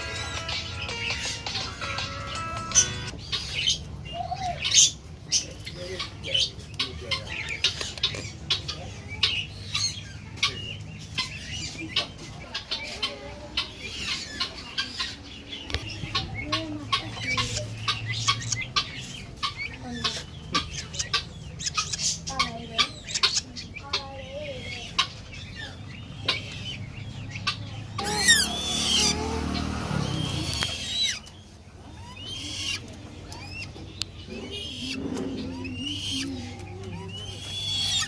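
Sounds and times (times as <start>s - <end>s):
caged birds chirping: 0.0s - 38.0s.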